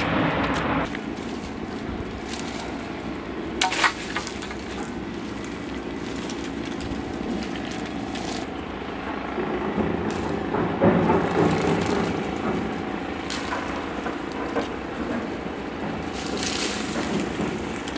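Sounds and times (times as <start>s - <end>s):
branches and leaves rustling: 0.0s - 17.9s
twigs cracking: 0.5s - 17.9s.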